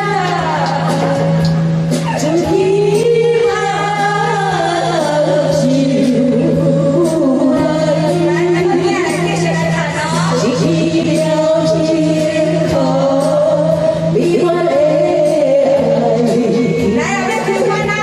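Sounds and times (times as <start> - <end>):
person singing over music: 0.0 - 18.0.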